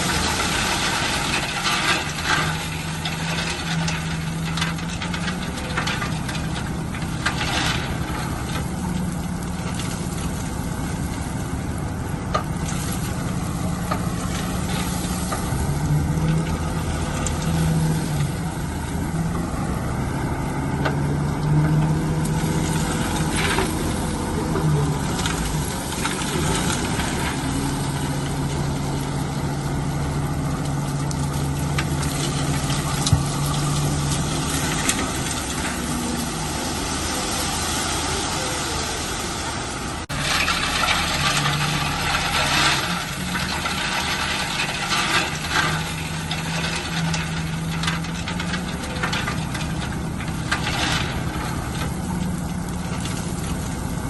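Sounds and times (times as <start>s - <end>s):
metal clanks and scrapes: 0.0s - 11.2s, 12.3s - 19.4s, 20.8s - 37.5s, 40.0s - 53.8s
heavy machine engine running: 0.0s - 54.0s.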